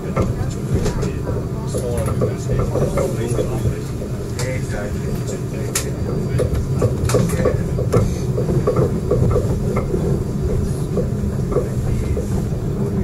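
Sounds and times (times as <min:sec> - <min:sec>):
train low rumble: 0:00.0 - 0:13.0
wheels clicking and knocking: 0:00.0 - 0:13.0.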